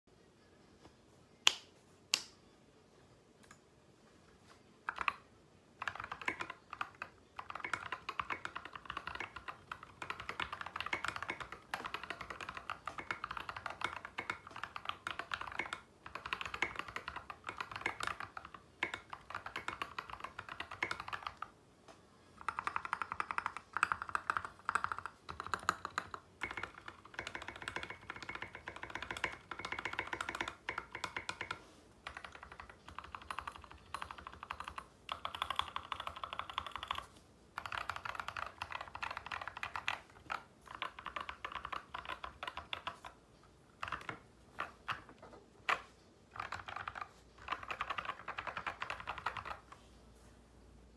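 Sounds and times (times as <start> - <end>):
mechanical keyboard typing: 4.8 - 21.6, 22.4 - 49.7.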